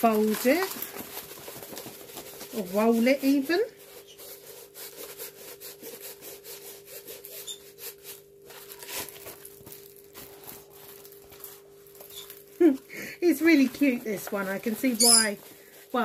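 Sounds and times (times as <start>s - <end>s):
faint steady hum: 0.0s - 16.0s
plastic crinkling and scraping: 0.0s - 16.0s.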